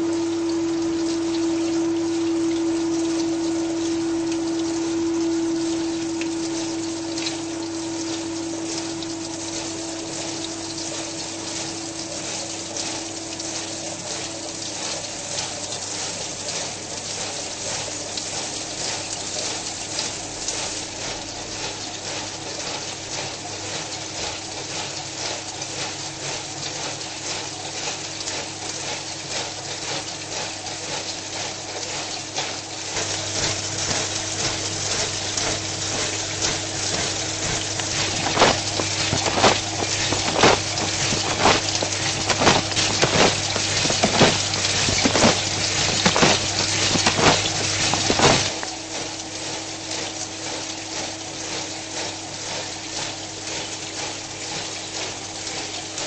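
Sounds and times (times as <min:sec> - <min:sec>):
pump humming: 0:00.0 - 0:56.0
water spraying against steel tub: 0:00.0 - 0:56.0.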